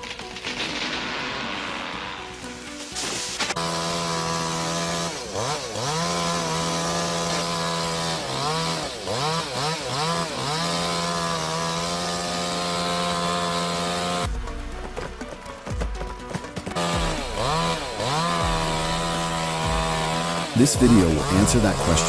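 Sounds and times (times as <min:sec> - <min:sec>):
chainsaw revving: 0:00.4 - 0:14.3, 0:16.8 - 0:22.0.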